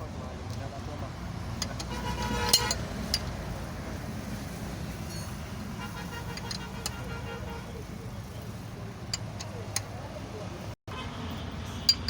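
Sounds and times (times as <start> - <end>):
vehicle engine rumbling: 0.0 - 10.8.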